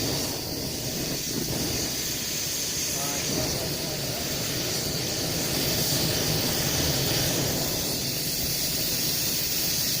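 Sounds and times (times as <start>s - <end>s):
campfire hissing and crackling: 0.0s - 10.0s.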